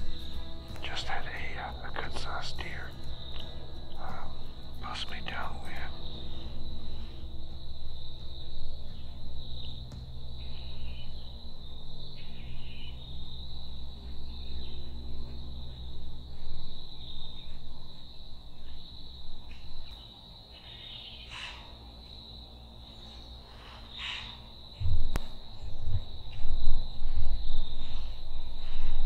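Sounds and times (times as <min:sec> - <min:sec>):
low rumble: 0:00.0 - 0:19.9, 0:24.8 - 0:29.0
crickets chirring: 0:00.0 - 0:29.0.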